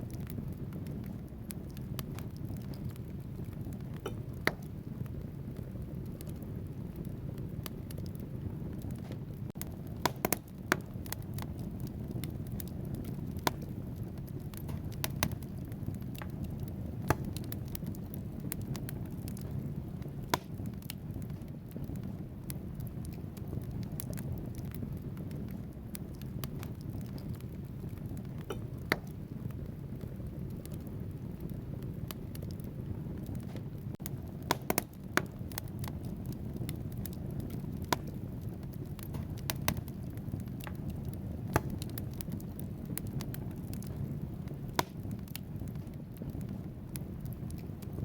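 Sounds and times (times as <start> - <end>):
fire flames rumbling: 0.0 - 48.0
logs crackling and popping: 0.0 - 48.0.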